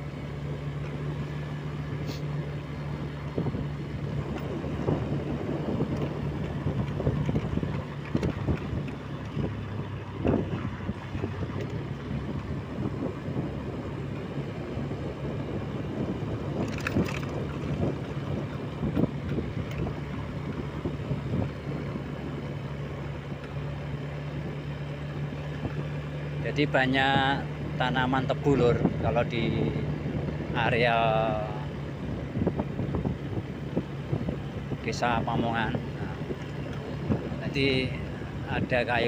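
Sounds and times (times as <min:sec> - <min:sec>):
scooter engine droning: 0:00.0 - 0:39.0
wind buffeting microphone: 0:02.6 - 0:39.0.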